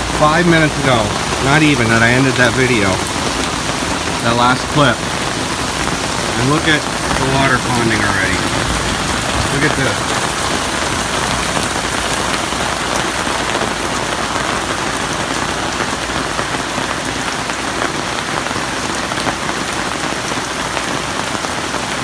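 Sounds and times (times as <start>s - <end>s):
heavy rain pattering: 0.0s - 22.0s.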